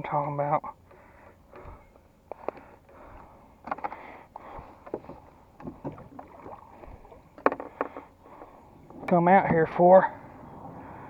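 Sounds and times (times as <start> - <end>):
knocks and clicks in kayak: 0.8 - 10.0.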